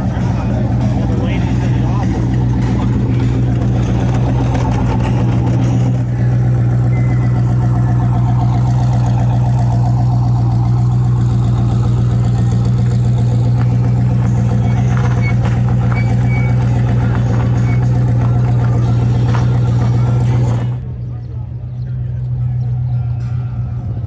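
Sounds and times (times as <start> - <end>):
car engine idling: 0.0 - 20.8.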